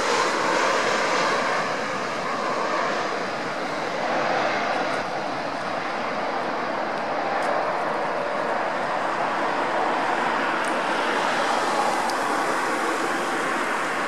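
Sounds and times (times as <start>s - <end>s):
jet engines rushing overhead: 0.0s - 14.0s.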